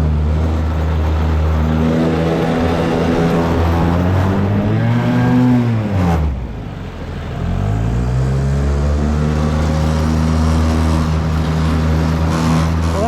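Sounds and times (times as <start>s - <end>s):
outboard motor running: 0.0s - 7.3s, 8.6s - 13.0s.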